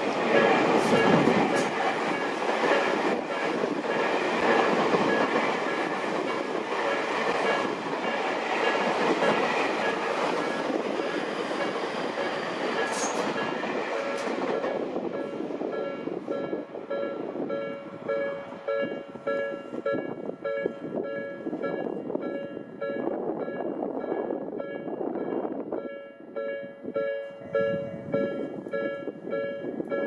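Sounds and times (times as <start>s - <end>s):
rail joints clicking: 0.0s - 24.9s
crossing warning bell ringing: 0.0s - 30.0s
train wheel and rail noise: 0.0s - 30.0s.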